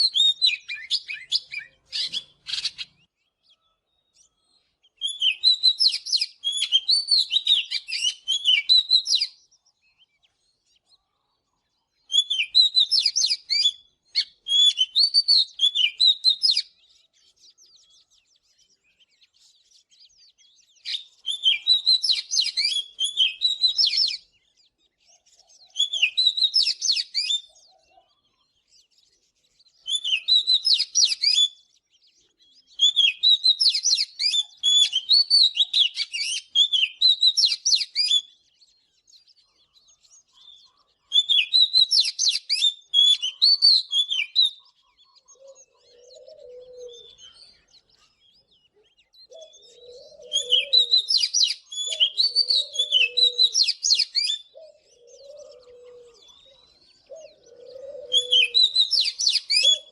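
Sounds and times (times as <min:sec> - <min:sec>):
bird singing whistles and chirps: 0:00.0 - 0:59.9.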